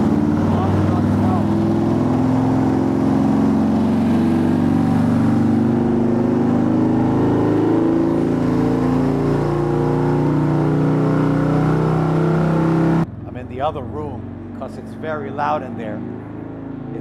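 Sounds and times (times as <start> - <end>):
motorcycle engine running loud: 0.0 - 17.0.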